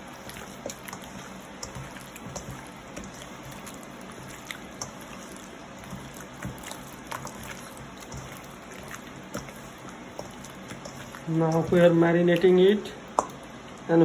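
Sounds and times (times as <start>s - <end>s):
wet sticky squelching: 0.0s - 12.6s.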